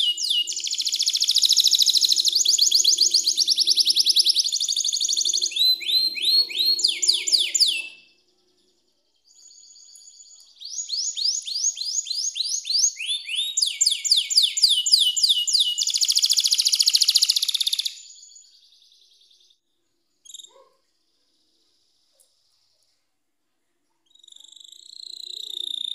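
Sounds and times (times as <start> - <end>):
canary singing trills: 0.0 - 19.6, 20.2 - 22.2, 24.0 - 25.9.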